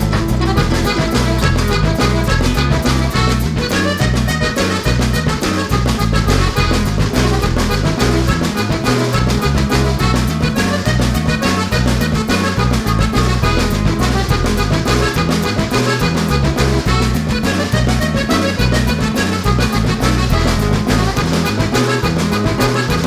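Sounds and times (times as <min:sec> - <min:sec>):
upbeat music with brass: 0:00.0 - 0:23.0.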